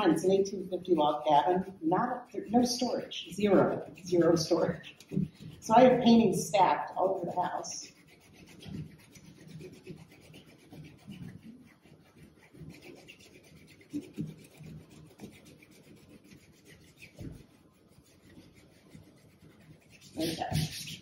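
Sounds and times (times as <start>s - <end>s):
fingertips rubbing paper: 0.0s - 21.0s.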